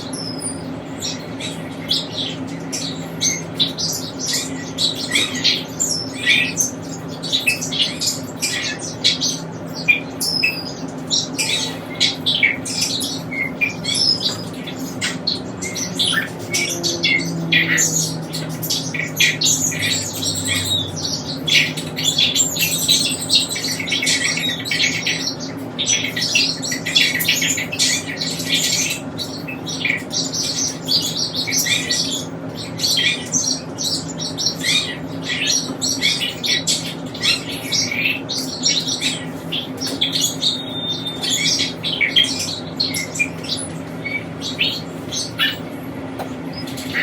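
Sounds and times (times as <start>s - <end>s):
pet birds chirping and squawking: 0.0s - 47.0s
steady low hum: 0.0s - 47.0s.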